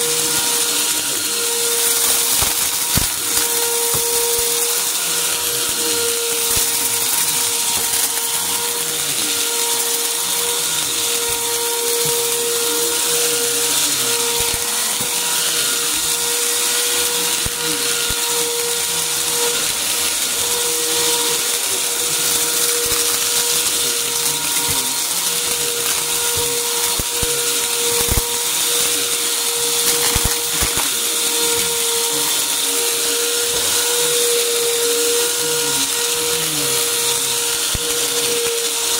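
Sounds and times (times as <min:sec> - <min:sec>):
debris crunching in hose: 0:00.0 - 0:38.9
vacuum cleaner running: 0:00.0 - 0:38.9.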